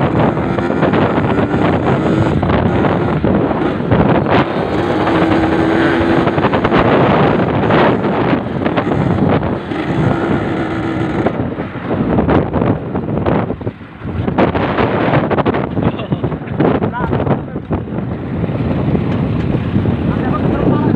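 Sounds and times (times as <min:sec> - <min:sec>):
motorcycle engine under load: 0:00.0 - 0:20.9
wind buffeting microphone: 0:00.0 - 0:20.9.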